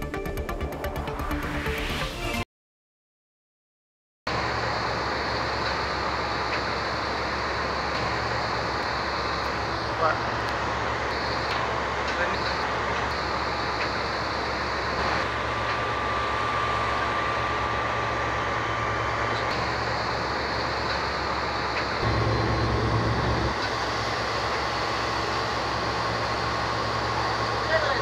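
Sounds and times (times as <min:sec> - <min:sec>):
boat engine drone: 0:04.3 - 0:28.0
faint steady whine: 0:04.3 - 0:28.0.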